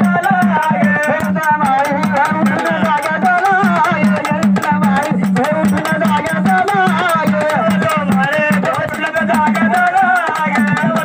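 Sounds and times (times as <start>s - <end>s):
fast drum rhythm: 0.0s - 11.0s.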